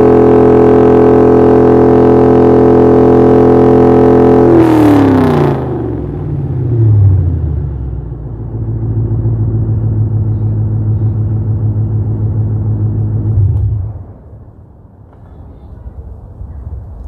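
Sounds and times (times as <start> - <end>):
car engine revving: 0.0 - 14.7.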